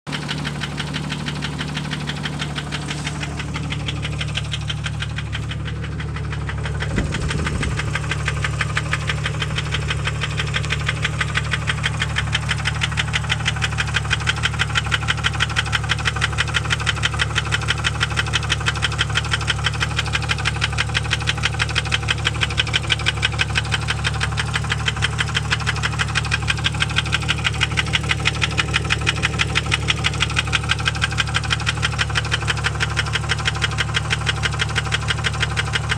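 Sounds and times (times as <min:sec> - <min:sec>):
car engine knocking: 0:00.0 - 0:35.9.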